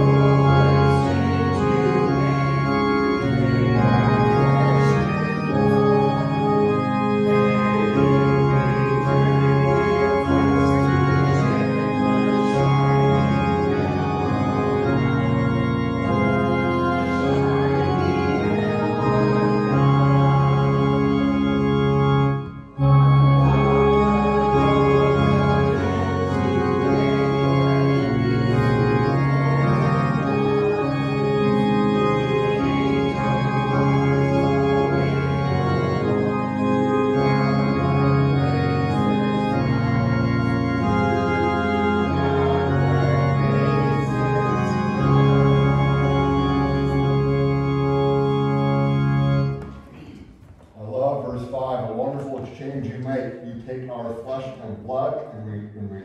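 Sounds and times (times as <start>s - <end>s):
organ playing chords: 0.0s - 56.0s.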